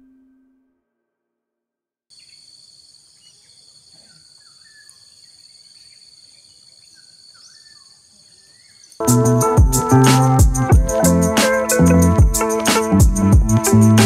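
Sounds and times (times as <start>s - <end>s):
birds chirping: 2.1s - 13.9s
insects buzzing: 2.1s - 14.0s.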